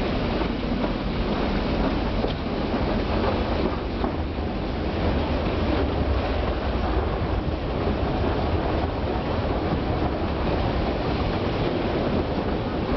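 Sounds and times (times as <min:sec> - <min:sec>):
train wheels rumbling on rails: 0:00.0 - 0:12.9
wind rushing over microphone: 0:00.0 - 0:12.9.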